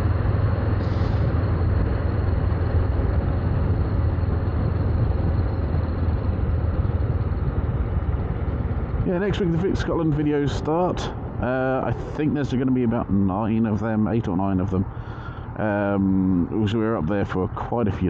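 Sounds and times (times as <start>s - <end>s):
motorcycle engine at road speed: 0.0s - 15.4s
wind rushing on microphone: 0.0s - 18.0s.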